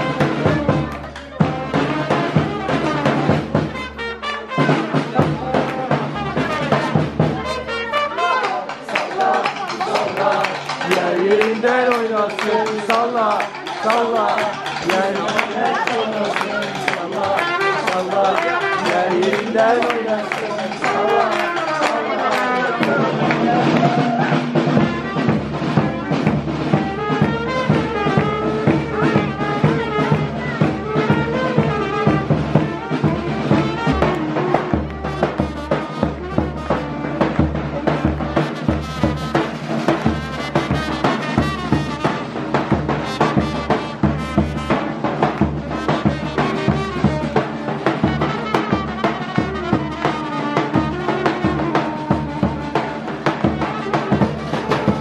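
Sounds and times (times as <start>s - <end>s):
brass band playing a dance tune: 0.0s - 55.0s.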